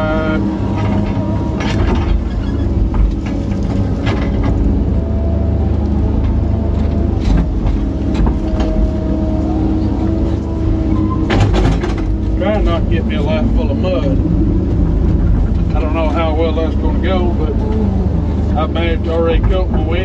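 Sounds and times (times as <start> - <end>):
excavator engine drone: 0.0 - 20.0.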